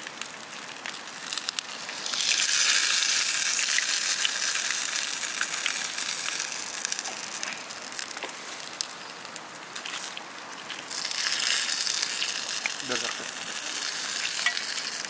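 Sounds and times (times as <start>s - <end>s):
meat sizzling in hot fat: 0.0s - 15.0s.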